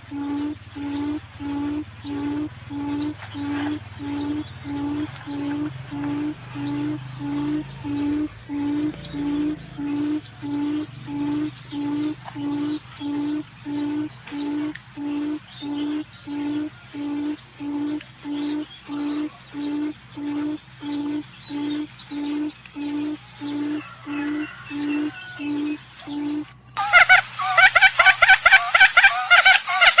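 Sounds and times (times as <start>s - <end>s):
faint bird chirps: 0.0s - 26.5s
low hooting bird call: 0.0s - 30.0s.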